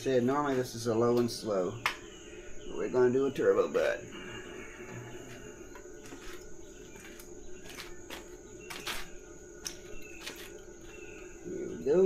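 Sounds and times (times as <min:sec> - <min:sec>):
faint bird chirps: 0:00.0 - 0:12.0
steady low hum: 0:00.0 - 0:12.0.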